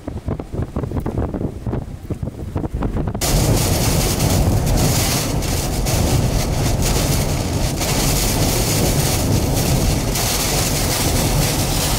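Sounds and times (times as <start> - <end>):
wind and rain buffeting a vehicle: 0.0 - 11.9.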